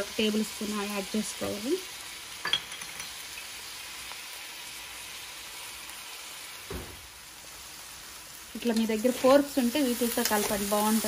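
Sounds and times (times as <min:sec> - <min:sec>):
noodles sizzling in a wok: 0:00.0 - 0:11.0.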